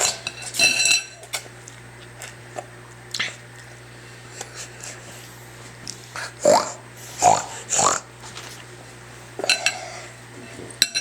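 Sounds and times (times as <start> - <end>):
child chewing and slurping noodles: 1.2 - 10.6.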